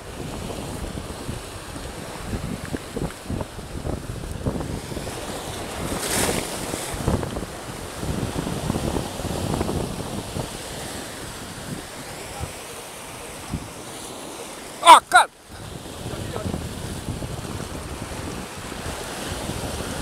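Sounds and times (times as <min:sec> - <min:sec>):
wind buffeting microphone: 0:00.0 - 0:12.6, 0:13.2 - 0:13.8, 0:15.4 - 0:20.0
surf breaking over rocks: 0:00.0 - 0:20.0.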